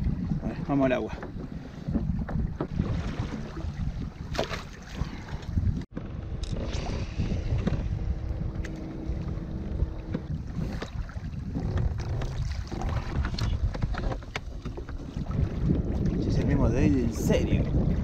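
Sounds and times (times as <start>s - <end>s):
water lapping against a hull: 0.0s - 18.0s
wind buffeting microphone: 0.0s - 18.0s.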